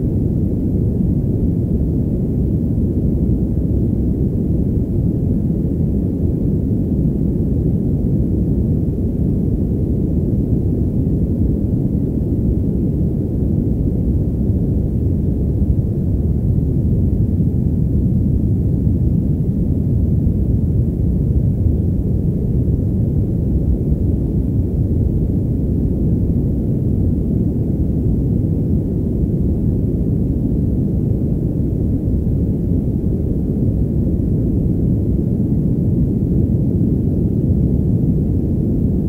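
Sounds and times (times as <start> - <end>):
deep muffled white noise: 0.0 - 39.0.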